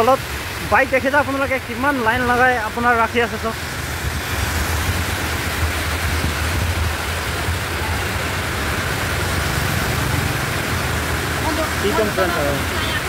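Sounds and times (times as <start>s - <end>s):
heavy rain pouring: 0.0s - 13.0s
traffic on wet road: 0.0s - 13.0s.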